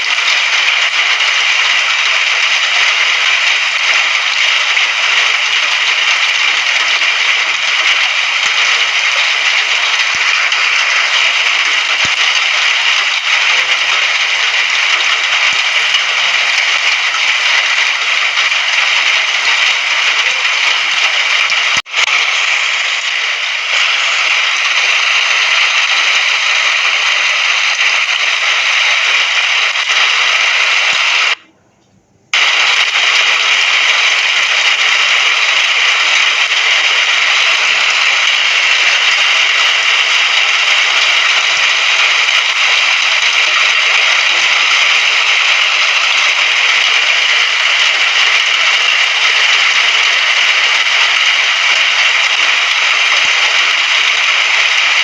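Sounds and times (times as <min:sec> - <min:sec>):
steady rain: 0:00.0 - 0:31.4, 0:32.4 - 0:55.0.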